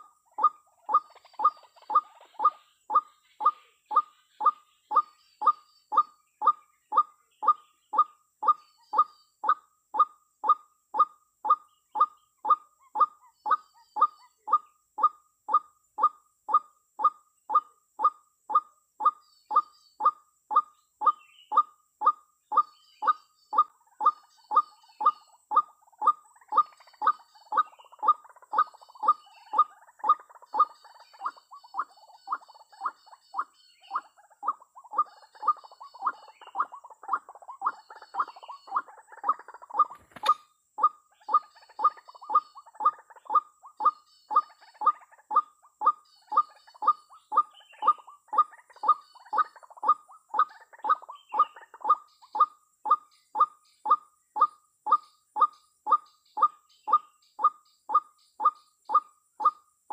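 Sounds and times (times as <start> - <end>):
waterhen calling: 0.0 - 59.6
small birds chirping faintly: 0.0 - 59.9.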